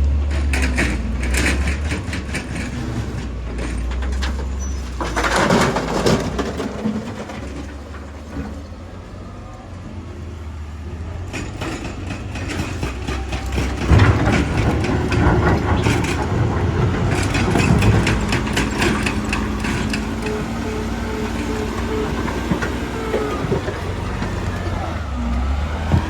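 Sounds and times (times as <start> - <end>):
diesel engine running: 0.0 - 26.0
heavy clattering and rumbling: 0.0 - 26.0.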